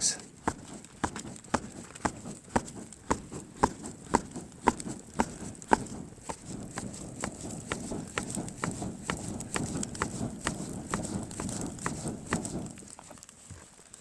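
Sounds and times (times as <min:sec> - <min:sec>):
hand fanning flaps: 0:00.0 - 0:14.0.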